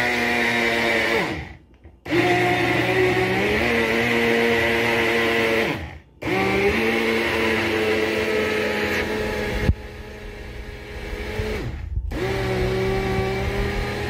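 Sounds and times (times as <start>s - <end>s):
blender knock: 0.0s - 9.9s, 11.3s - 14.0s
electric blender motor running: 0.0s - 14.0s.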